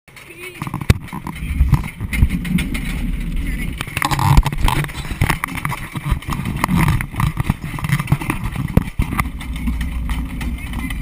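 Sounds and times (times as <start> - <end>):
roller coaster chain lift clatter: 0.1 - 11.0
sharp clacks: 0.1 - 11.0.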